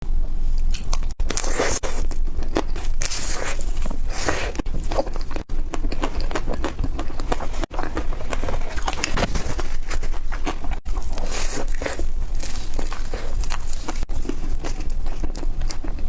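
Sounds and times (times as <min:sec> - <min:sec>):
crunching crispy ice cream: 0:00.7 - 0:16.0.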